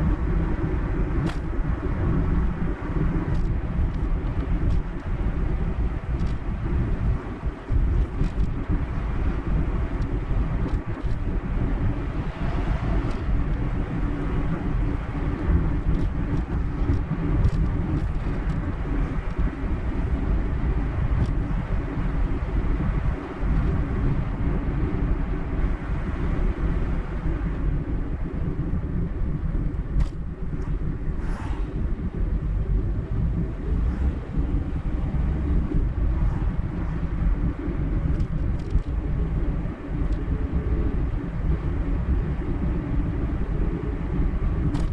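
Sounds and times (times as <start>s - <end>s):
car tyre and engine noise: 0.0s - 44.9s.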